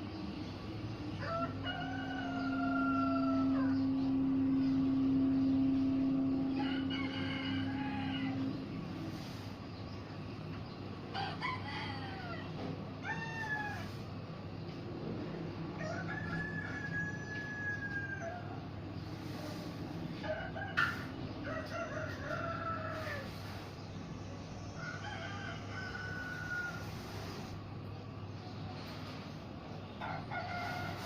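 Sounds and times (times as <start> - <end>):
steady low hum: 0.0 - 31.0
roosters crowing: 0.3 - 31.0.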